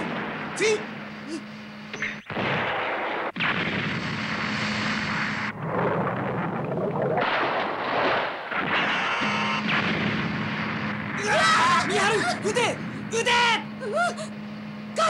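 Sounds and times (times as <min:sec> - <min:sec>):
jet fighter drone: 0:00.0 - 0:15.0.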